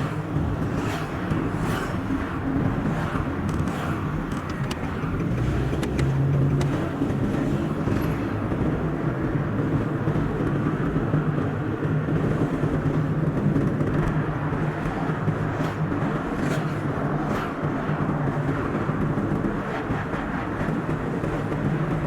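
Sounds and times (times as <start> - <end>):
car engine: 0.0 - 22.0.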